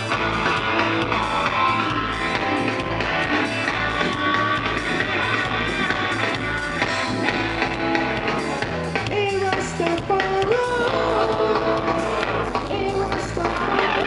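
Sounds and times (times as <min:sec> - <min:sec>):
live reggae band: 0:00.0 - 0:14.0.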